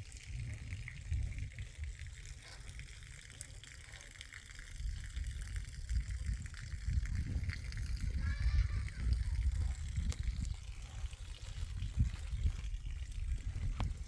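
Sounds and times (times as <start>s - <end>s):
wind buffeting microphone: 0.0s - 3.3s, 4.5s - 14.0s.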